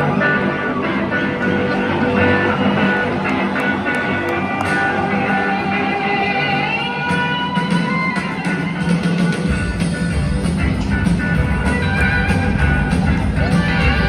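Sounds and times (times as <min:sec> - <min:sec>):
lead guitar gliding in pitch: 0:00.0 - 0:14.0
live rock band: 0:00.0 - 0:14.0.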